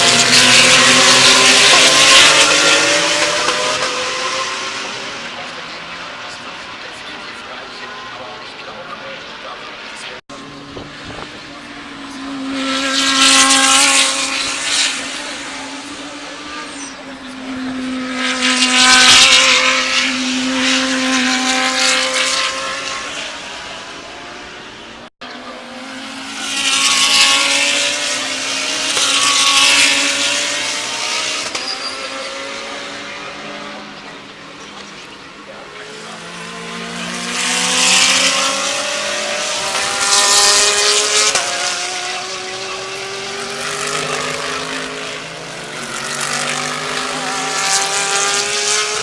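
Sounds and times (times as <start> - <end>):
race cars passing at high revs: 0.0 - 49.0.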